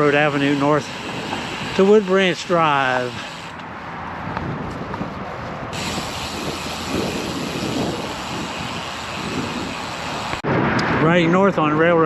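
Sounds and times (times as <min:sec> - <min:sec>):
tyre and road noise: 0:00.0 - 0:12.0
wind buffeting microphone: 0:00.0 - 0:12.0.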